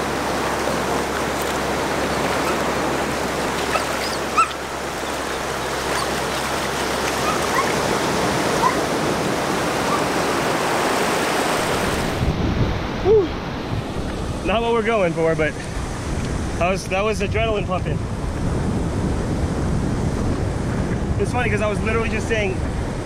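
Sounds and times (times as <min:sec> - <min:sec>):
surf washing over sand: 0:00.0 - 0:23.0.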